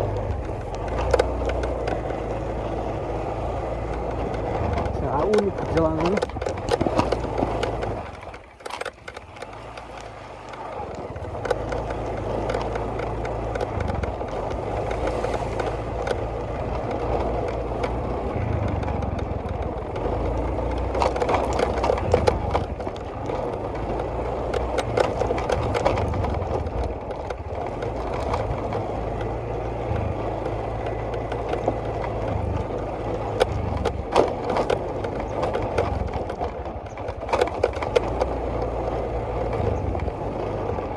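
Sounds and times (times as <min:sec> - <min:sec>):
rattles and knocks over rough ground: 0:00.0 - 0:40.9
small vehicle engine running: 0:00.0 - 0:40.9.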